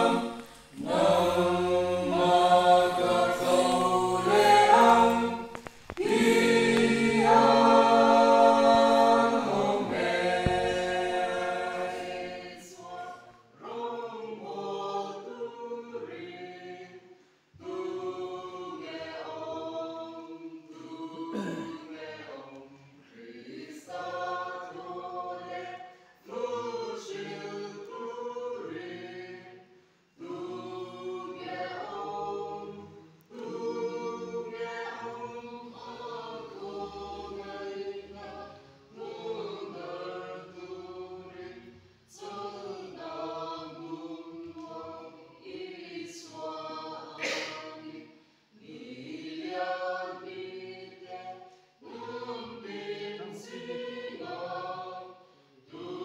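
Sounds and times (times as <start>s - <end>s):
group singing a hymn unaccompanied: 0.0s - 56.0s.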